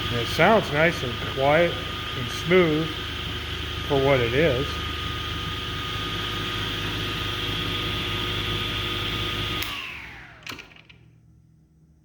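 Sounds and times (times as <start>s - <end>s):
table saw motor running: 0.0s - 11.0s.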